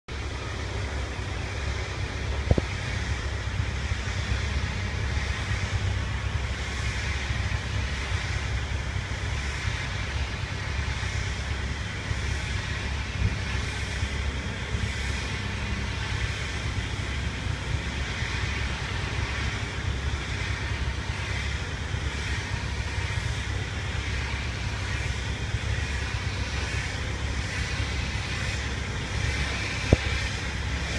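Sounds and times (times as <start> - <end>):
pressure washer running: 0.1 - 30.9.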